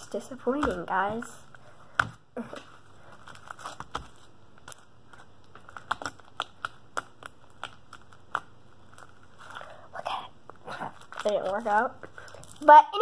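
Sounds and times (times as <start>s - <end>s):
slime crackling: 2.5s - 13.0s.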